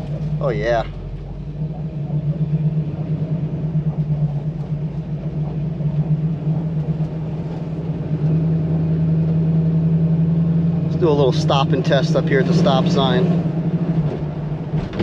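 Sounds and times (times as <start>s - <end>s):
car engine humming: 0.0s - 15.0s
road noise: 0.0s - 15.0s.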